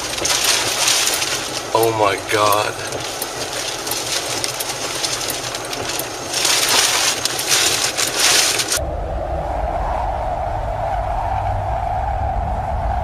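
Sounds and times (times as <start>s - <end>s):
wind and road noise inside car: 0.0s - 13.0s.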